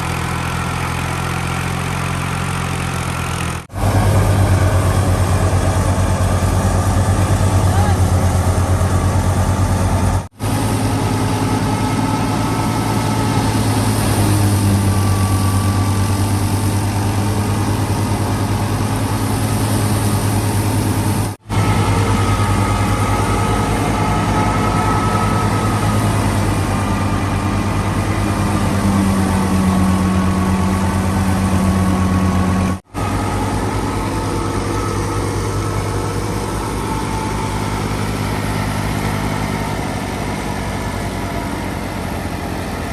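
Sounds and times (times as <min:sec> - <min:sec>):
thresher humming: 0:00.0 - 0:42.9
tractor diesel engine droning: 0:00.0 - 0:42.9.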